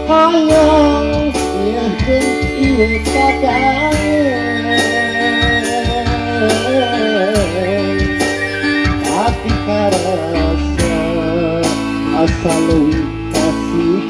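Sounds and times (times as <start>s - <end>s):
sustained chords: 0.0s - 12.3s
steady drum beat: 0.0s - 13.9s
keyboard and vocal melody: 0.0s - 14.0s.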